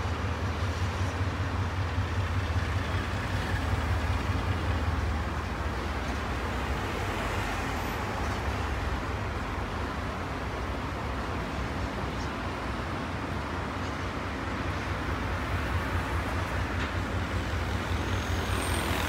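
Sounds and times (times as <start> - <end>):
diesel locomotives rumbling: 0.0 - 19.0
train wheels on rails: 0.0 - 19.0.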